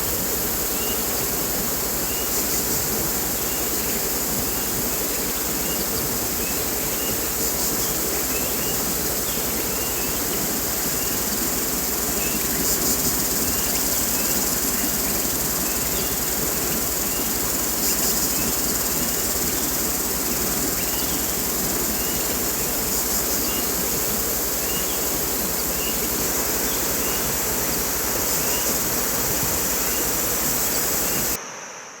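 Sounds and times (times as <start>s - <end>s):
running water hiss: 0.0s - 31.4s
high-pitched insect chorus: 0.0s - 32.0s.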